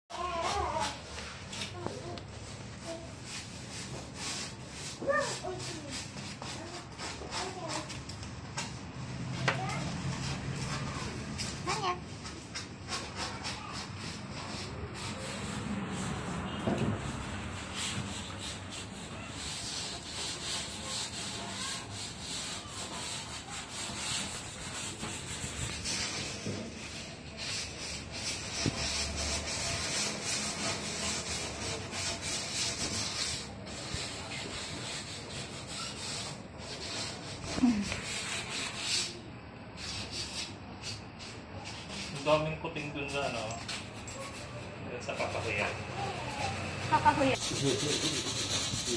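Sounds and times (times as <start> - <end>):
sanding scraping strokes: 0.1 - 1.6, 2.4 - 8.0, 9.8 - 48.9.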